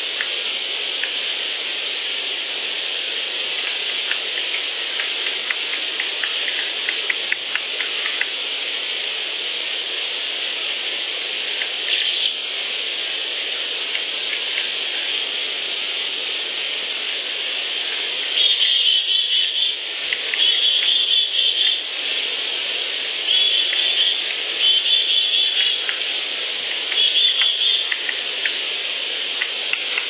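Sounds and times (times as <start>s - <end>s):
recorder hiss: 0.0s - 30.0s.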